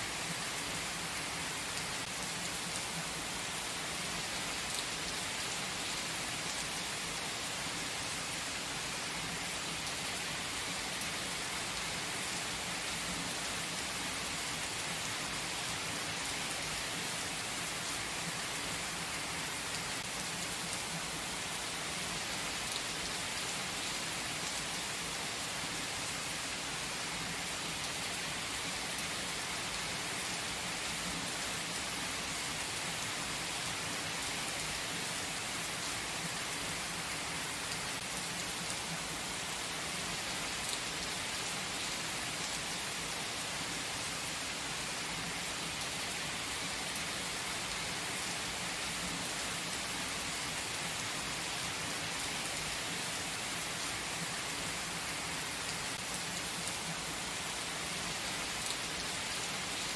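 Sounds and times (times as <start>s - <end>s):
steady rain in forest: 0.0s - 59.9s.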